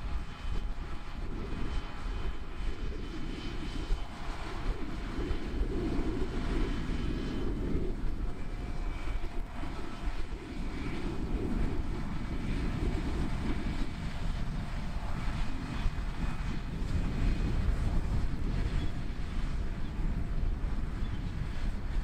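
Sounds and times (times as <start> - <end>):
tractor diesel engine drone: 0.0 - 22.0.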